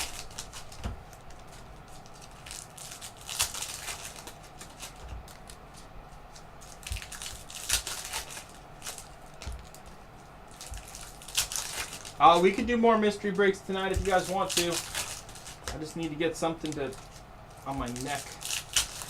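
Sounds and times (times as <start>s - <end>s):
card packaging crinkling and rustling: 0.0s - 19.0s.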